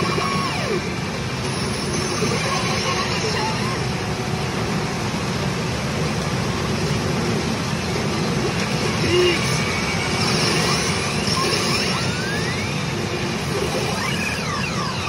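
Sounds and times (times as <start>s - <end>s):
pachinko machines din: 0.0s - 15.0s.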